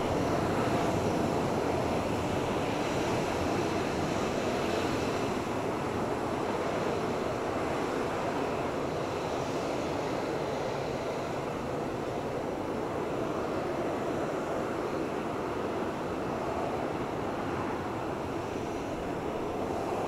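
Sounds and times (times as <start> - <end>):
jet engines at taxi power: 0.0 - 20.0.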